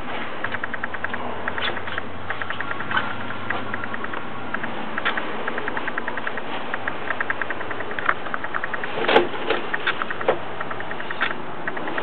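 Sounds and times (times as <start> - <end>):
engine idling with light ticking: 0.0 - 12.0
louder clicks: 0.4 - 12.0.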